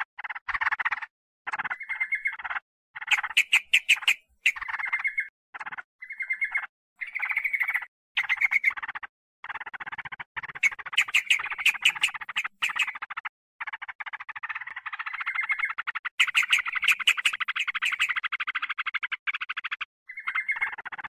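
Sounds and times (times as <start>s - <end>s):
bulbul harsh chattering calls: 1.5s - 5.3s, 6.0s - 21.0s.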